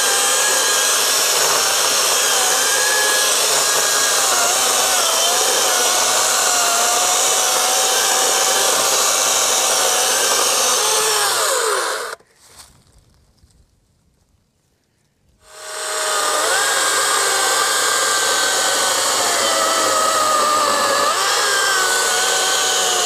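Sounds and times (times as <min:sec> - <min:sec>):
chainsaw cutting log: 0:00.0 - 0:12.2, 0:15.4 - 0:23.0.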